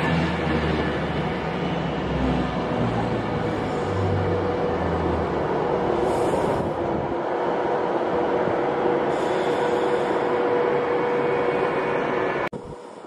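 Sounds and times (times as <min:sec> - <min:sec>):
electric train rolling slowly: 0:00.0 - 0:13.0.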